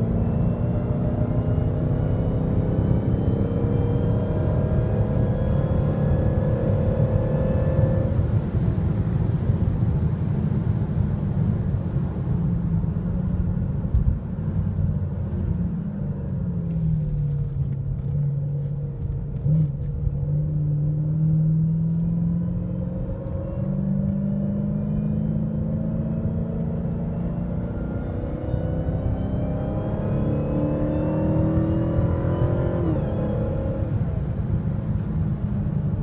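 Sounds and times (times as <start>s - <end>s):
car engine from inside cabin: 0.0s - 36.0s
road noise rumble: 0.0s - 36.0s.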